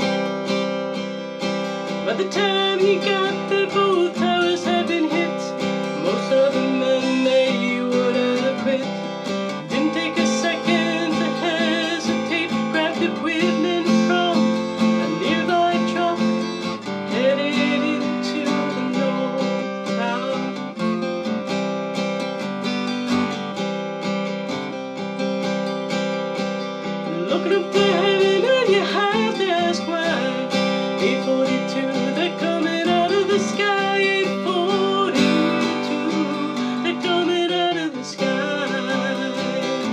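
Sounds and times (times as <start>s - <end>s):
acoustic guitar folk song: 0.0s - 39.9s.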